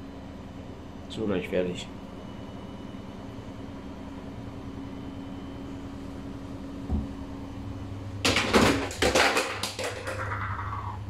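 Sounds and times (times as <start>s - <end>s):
washing machine hum: 0.0s - 11.0s.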